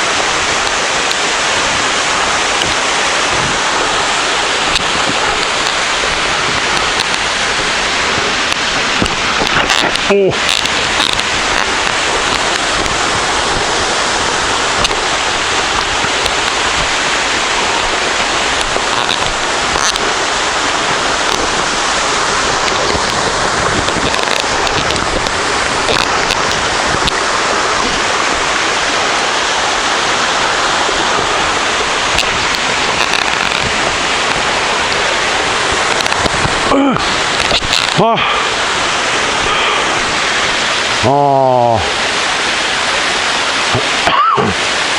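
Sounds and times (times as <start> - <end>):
waterfall pouring: 0.0 - 44.9.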